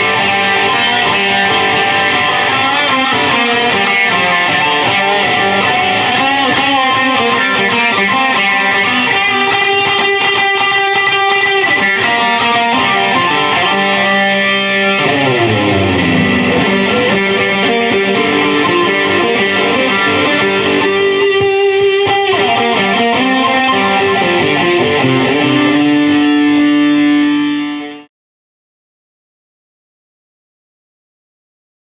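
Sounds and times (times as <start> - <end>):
electric guitar playing: 0.0 - 28.1.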